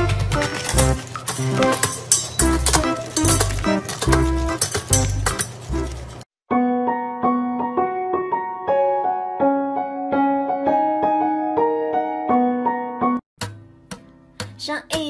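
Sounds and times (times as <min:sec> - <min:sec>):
gentle piano melody: 0:00.0 - 0:13.2.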